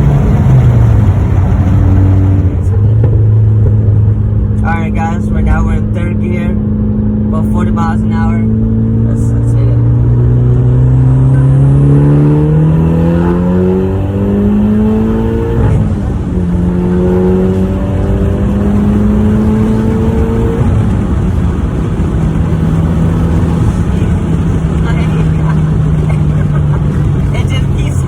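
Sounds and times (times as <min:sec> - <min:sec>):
car engine accelerating through gears: 0:00.0 - 0:28.0.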